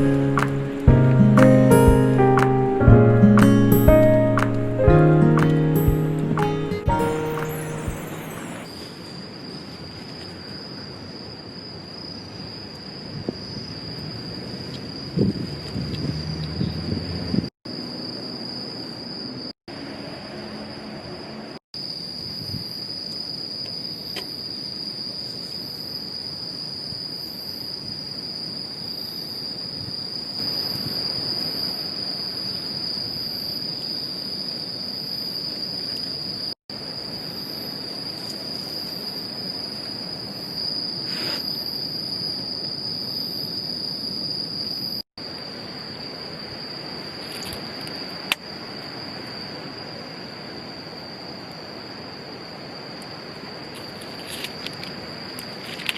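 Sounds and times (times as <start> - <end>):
crickets chirring: 0.0 - 55.9.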